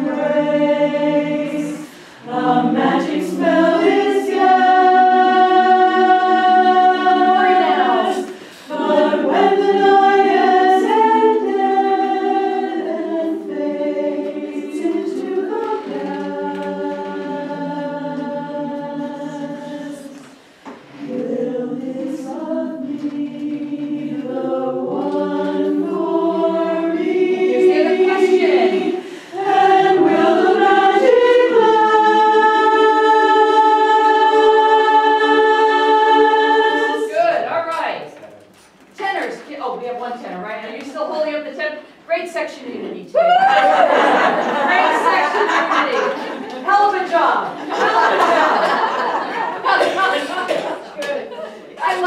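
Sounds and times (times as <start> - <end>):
women's chorus singing a cappella: 0.0 - 37.6, 42.4 - 52.0.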